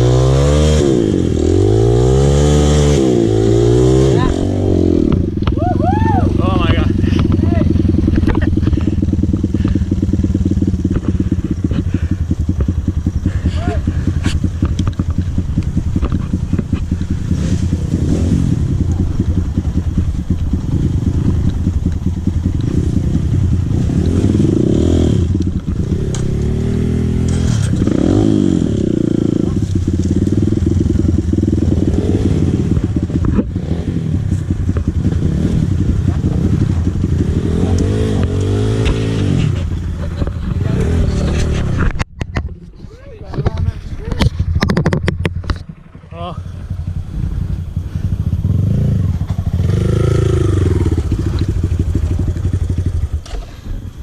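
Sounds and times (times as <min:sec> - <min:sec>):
dirt bike engine revving: 0:00.0 - 0:42.0, 0:45.4 - 0:54.0.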